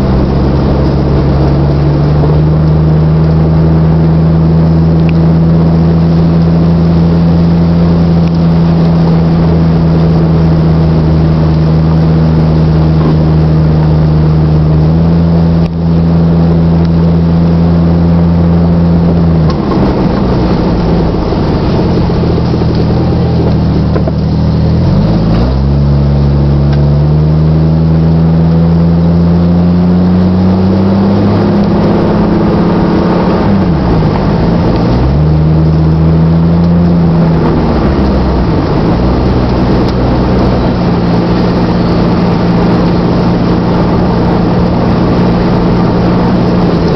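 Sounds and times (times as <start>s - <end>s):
car engine exhaust: 0.0s - 46.9s.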